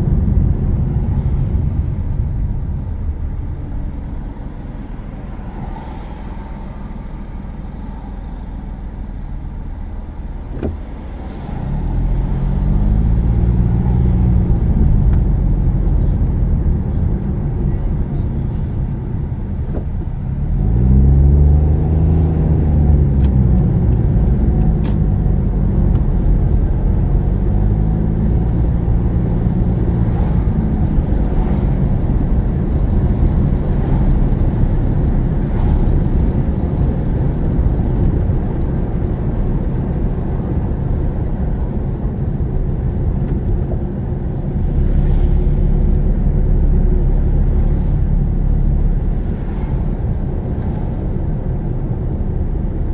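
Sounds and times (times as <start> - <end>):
car engine: 0.0 - 52.9
tyre and road noise: 0.0 - 52.9.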